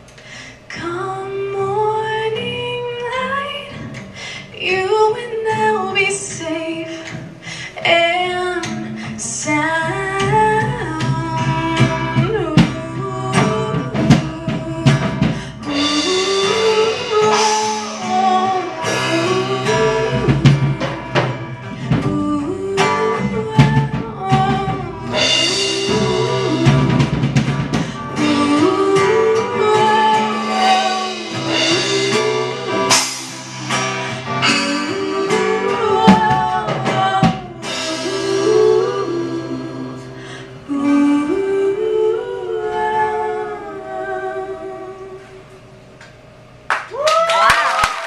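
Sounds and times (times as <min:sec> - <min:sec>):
acoustic guitar: 0:00.0 - 0:46.7
woman singing: 0:00.7 - 0:45.6.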